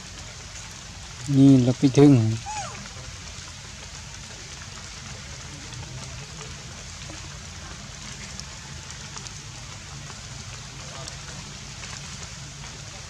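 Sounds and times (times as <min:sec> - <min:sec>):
faint drip ticks: 0:00.0 - 0:13.0
light rain on leaves: 0:00.0 - 0:13.0.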